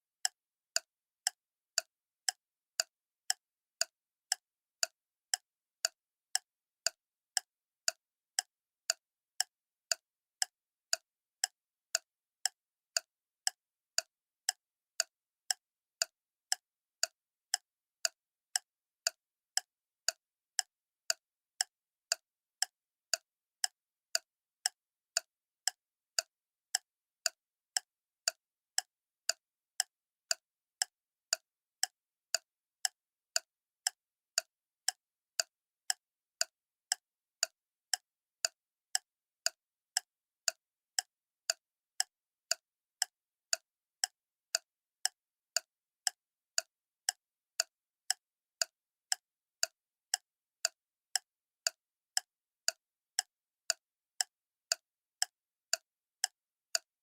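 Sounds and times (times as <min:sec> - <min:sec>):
clock ticking: 0:00.2 - 0:56.9.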